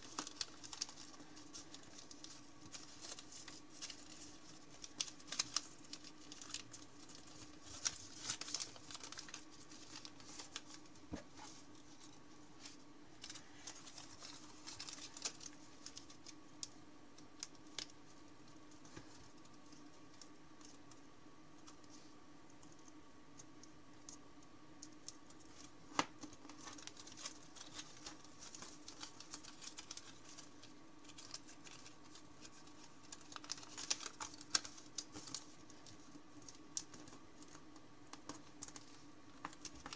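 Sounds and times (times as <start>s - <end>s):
paper rustling and crinkling: 0.0s - 16.7s, 17.4s - 21.0s, 25.3s - 39.9s
faint steady hum: 0.0s - 39.9s.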